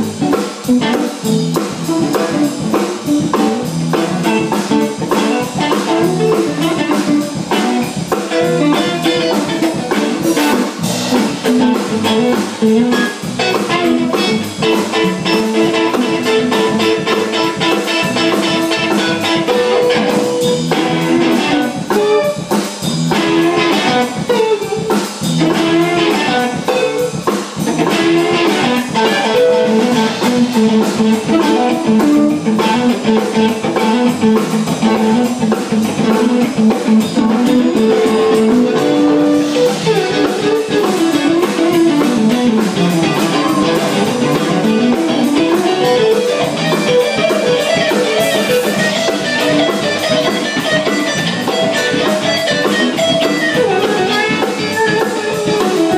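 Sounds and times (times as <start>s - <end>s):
drum kit beat: 0.0s - 55.9s
electric guitar playing: 0.0s - 55.9s.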